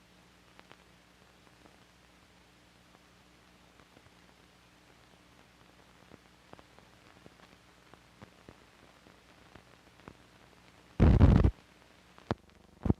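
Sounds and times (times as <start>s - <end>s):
film soundtrack hiss and hum: 0.0s - 12.9s.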